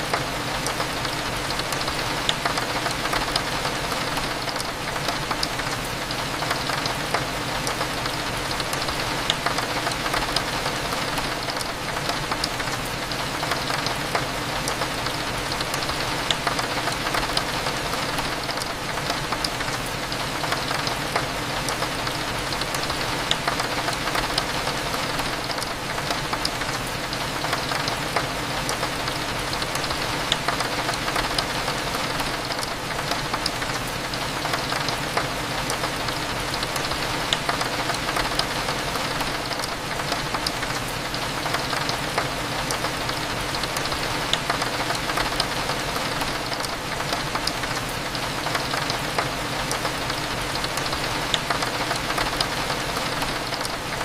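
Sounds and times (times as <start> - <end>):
raindrops ticking on a window: 0.0 - 54.0.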